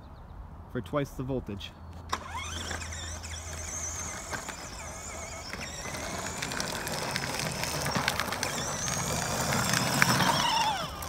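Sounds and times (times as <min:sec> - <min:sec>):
plastic wheels rattling: 0:02.1 - 0:11.0
toy motorcycle electric motor: 0:02.1 - 0:11.0.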